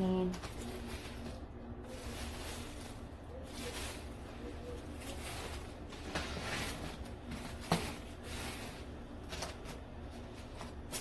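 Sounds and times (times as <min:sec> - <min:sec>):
plastic packaging rustling: 0:00.0 - 0:11.0.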